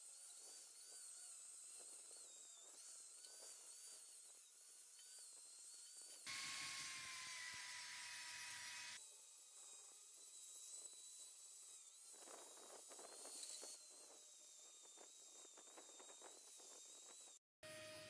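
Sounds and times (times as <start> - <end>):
angle grinder motor whining: 0.0 - 18.0.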